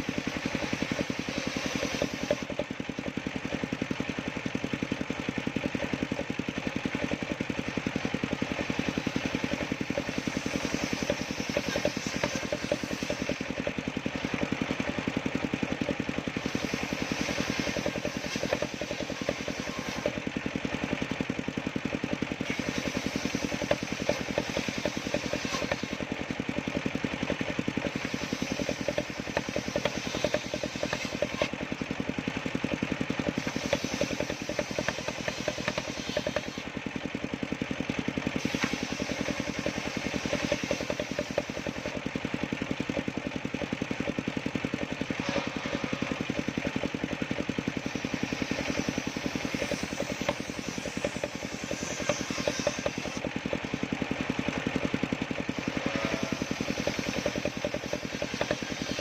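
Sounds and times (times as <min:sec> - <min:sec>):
sawmill machine engine running: 0:00.0 - 0:59.0.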